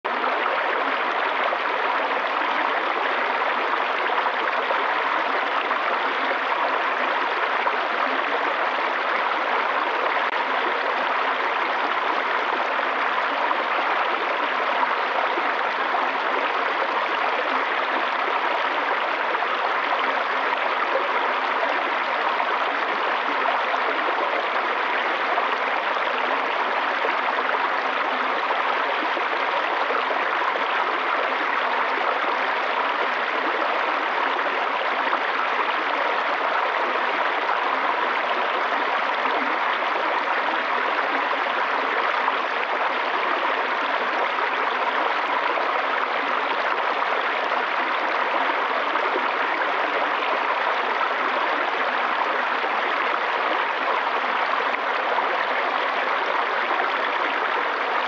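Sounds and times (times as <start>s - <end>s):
stream splashing over rocks: 0.1s - 58.0s.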